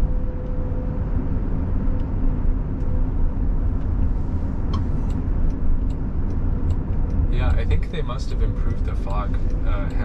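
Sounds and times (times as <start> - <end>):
road and tyre noise: 0.0 - 10.0.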